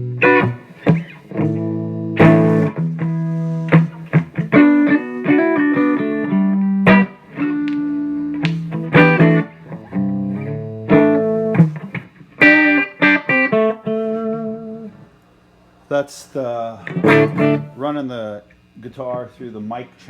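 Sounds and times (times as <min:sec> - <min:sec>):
electric guitar through tube amp: 0:00.0 - 0:15.1, 0:16.7 - 0:17.9.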